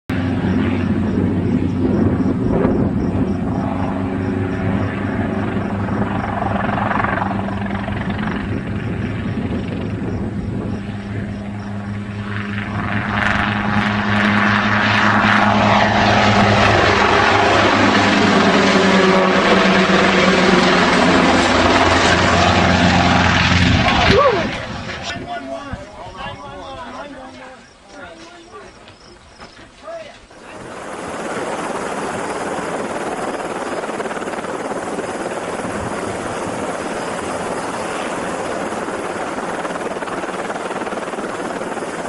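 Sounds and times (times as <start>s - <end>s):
helicopter engine and rotor: 0.1s - 25.0s, 30.2s - 42.0s.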